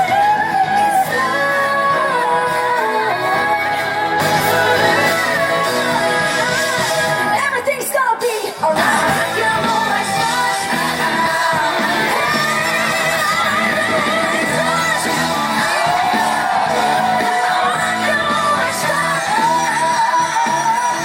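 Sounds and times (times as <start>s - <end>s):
pop band accompaniment: 0.0s - 21.0s
woman singing: 0.0s - 21.0s.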